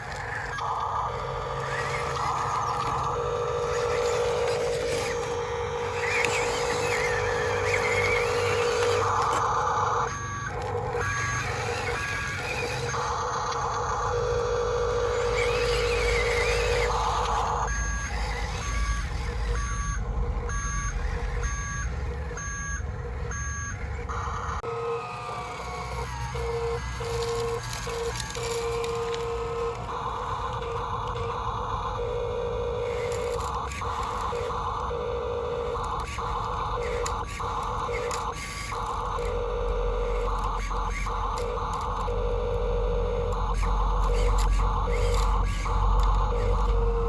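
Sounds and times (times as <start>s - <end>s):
reversing beeper: 0.0s - 47.0s
simulated diesel engine sound: 0.0s - 47.0s.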